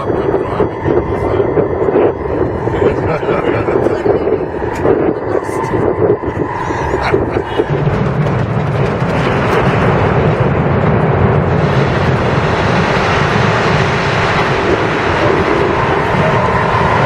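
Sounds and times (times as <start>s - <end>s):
building collapsing rumble: 0.0s - 17.0s.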